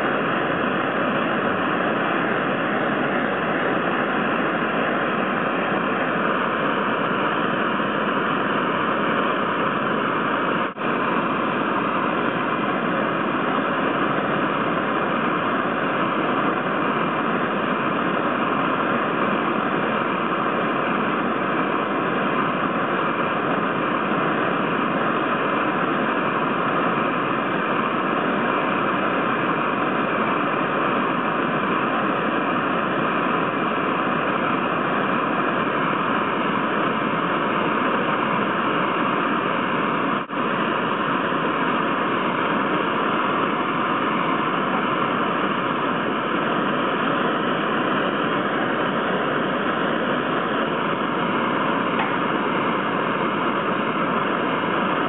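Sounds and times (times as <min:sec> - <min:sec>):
steady loud hiss: 0:00.0 - 0:55.0.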